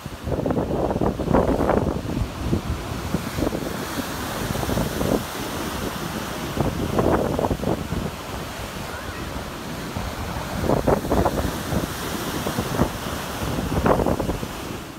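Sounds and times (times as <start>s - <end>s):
heavy surf breaking: 0.0s - 14.9s
wind buffeting microphone: 0.0s - 14.9s.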